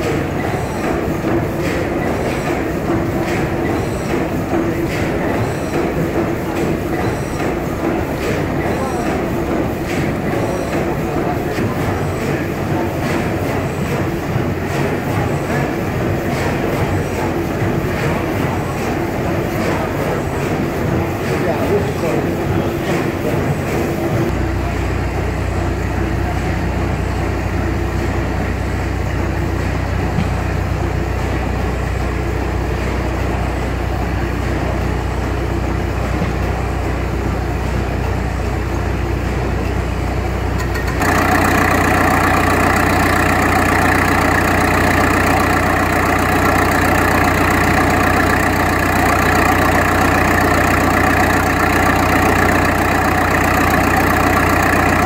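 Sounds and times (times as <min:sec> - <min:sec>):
air compressor droning: 0:00.0 - 0:55.0
large engine humming: 0:00.0 - 0:55.0.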